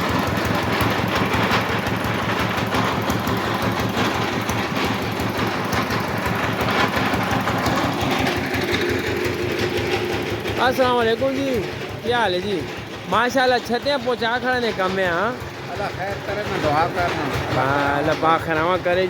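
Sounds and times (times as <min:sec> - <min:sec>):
machine engine chugging: 0:00.0 - 0:19.0.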